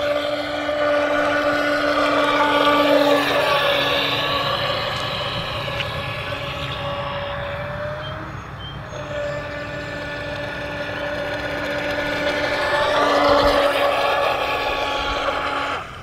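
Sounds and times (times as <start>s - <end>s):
rc boat electric motor whine: 0.0s - 16.0s.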